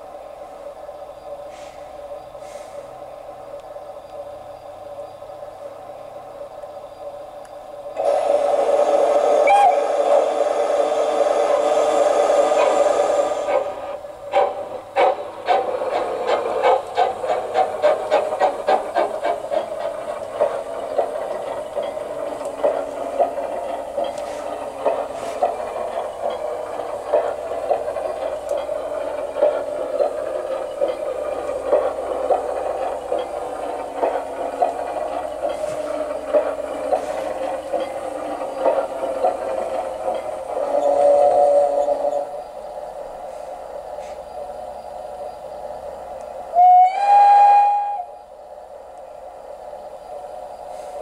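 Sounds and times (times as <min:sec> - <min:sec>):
model steam locomotive chuffing: 0:00.0 - 0:51.0
steady steam hiss: 0:00.0 - 0:51.0.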